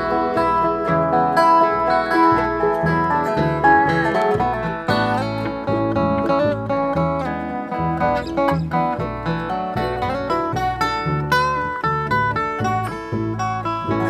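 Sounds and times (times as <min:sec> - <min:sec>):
banjo: 0:00.0 - 0:14.0
picked acoustic guitar: 0:00.0 - 0:14.0
resonator guitar: 0:00.0 - 0:14.0
upright bass notes: 0:00.0 - 0:14.0.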